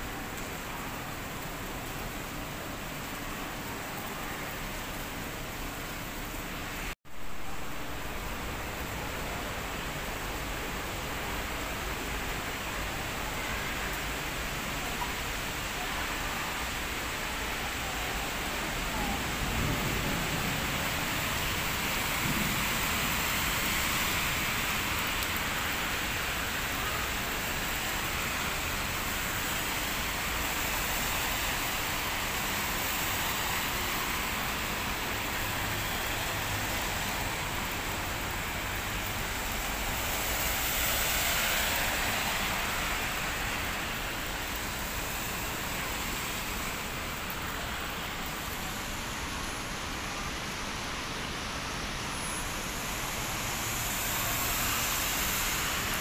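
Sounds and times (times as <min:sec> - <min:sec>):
rain falling: 0:00.0 - 0:56.0
traffic on wet road: 0:00.0 - 0:56.0.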